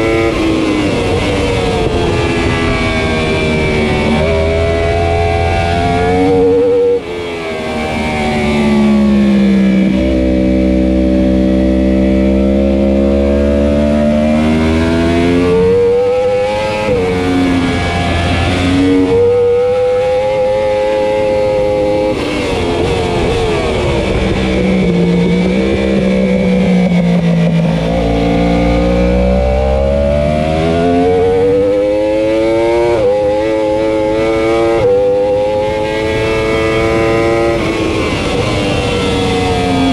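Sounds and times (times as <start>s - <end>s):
wind rush: 0.0s - 12.9s, 14.0s - 29.2s, 30.5s - 39.9s
motorcycle engine racing: 0.0s - 39.9s.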